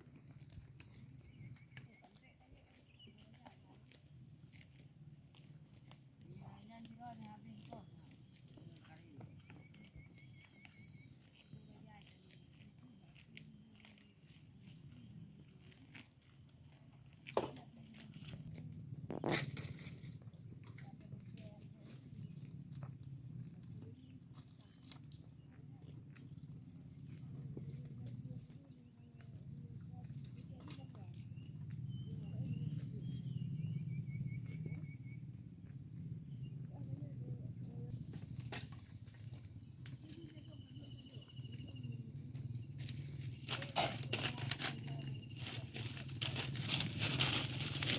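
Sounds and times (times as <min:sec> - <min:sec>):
cow tearing grass and chewing: 0:00.0 - 0:47.9.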